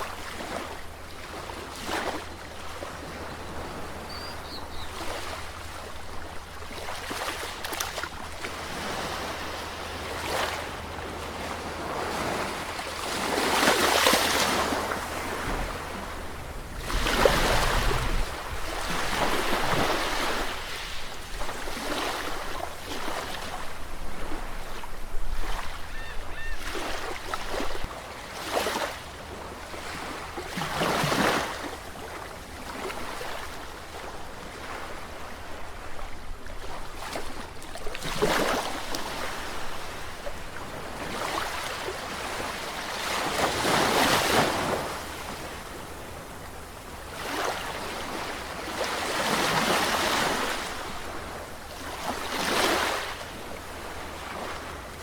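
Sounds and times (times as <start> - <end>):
sea waves breaking: 0.0 - 33.6, 36.8 - 55.0.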